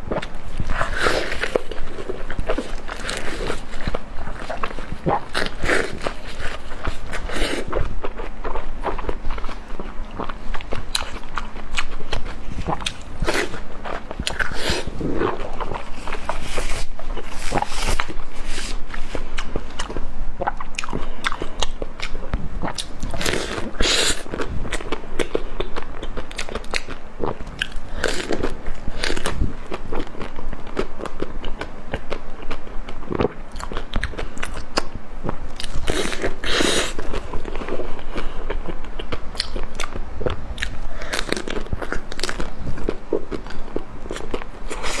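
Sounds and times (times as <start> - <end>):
crunchy chewing: 0.1 - 45.0.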